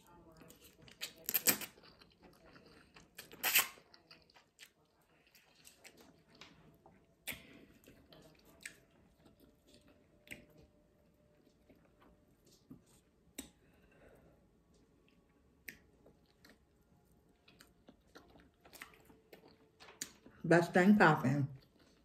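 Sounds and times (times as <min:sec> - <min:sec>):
quiet chewing: 0:00.0 - 0:20.4, 0:21.5 - 0:22.0.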